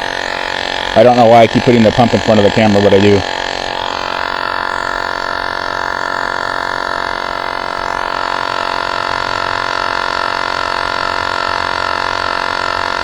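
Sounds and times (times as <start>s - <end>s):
electric tire inflator droning: 0.0s - 13.0s.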